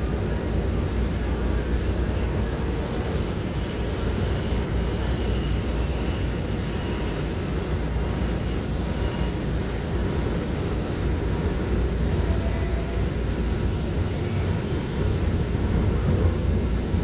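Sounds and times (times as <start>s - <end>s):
light-rail train rumble: 0.0s - 17.0s.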